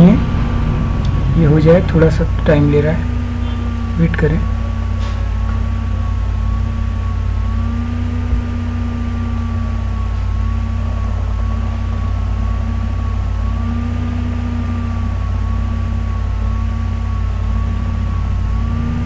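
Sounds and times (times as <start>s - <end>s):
steady low hum: 0.0s - 19.0s
thin high whine: 0.0s - 19.0s.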